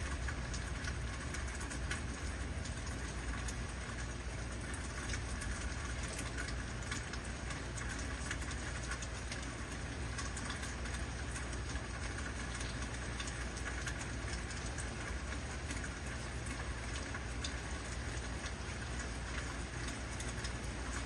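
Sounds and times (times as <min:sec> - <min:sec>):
heavy rain: 0:00.0 - 0:21.0
low steady rumble: 0:00.0 - 0:21.0.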